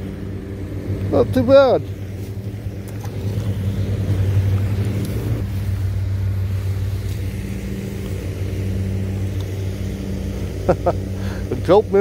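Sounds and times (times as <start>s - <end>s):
motor humming with rumble: 0.0s - 12.0s.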